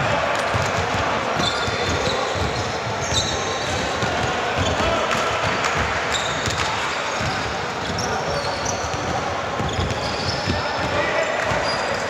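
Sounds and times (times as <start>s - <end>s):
basketball bouncing on court: 0.4s - 12.0s.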